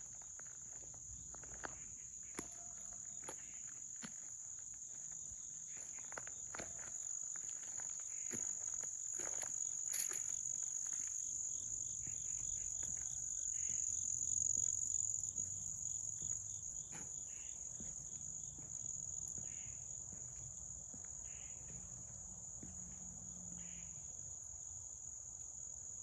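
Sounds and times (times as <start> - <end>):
insect chorus droning: 0.0 - 26.0.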